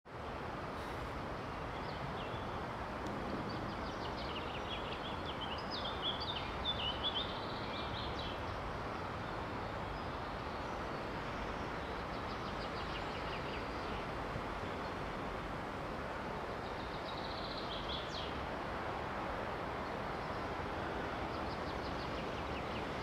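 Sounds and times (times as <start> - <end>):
outdoor background noise: 0.1 - 23.0
songbird chirping and twittering: 1.4 - 15.1, 16.5 - 18.4, 19.8 - 23.0.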